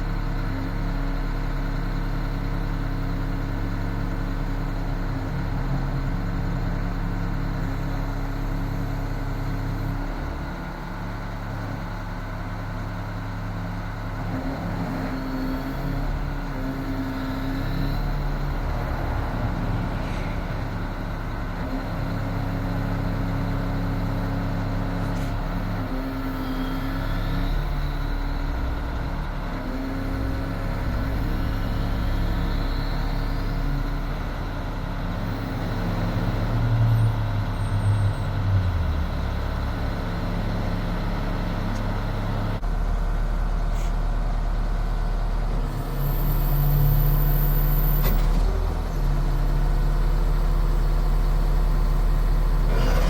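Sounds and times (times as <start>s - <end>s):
truck engine running: 0.0s - 47.9s, 48.5s - 53.0s.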